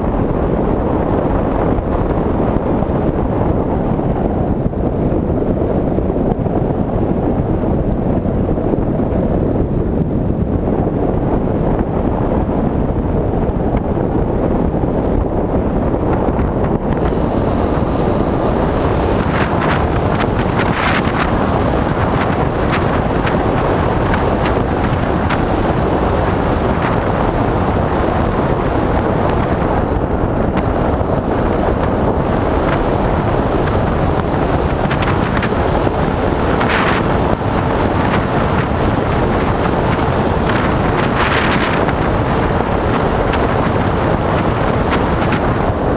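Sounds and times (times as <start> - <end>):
hissing wind gusts: 0.0 - 45.9
wind rush: 0.0 - 45.9.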